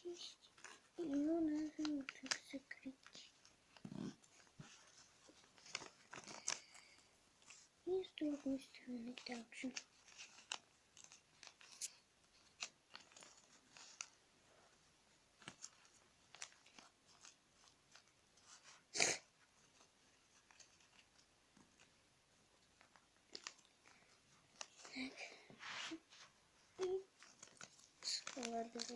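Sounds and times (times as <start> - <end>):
paper crackle: 0.0 - 14.2, 15.3 - 28.9
paper crinkling and rustling: 0.0 - 28.9.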